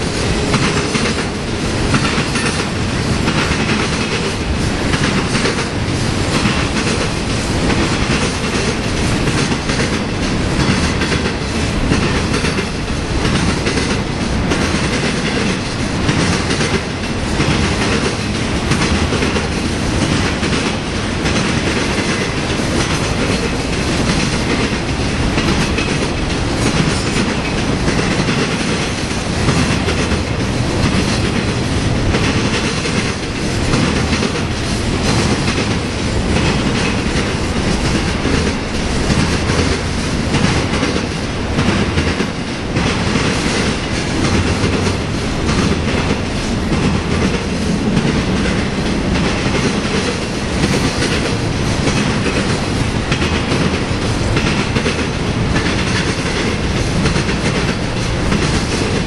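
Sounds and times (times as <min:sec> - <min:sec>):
train wheel clicks: 0:00.0 - 0:59.0
train wheels rumbling past: 0:00.0 - 0:59.0.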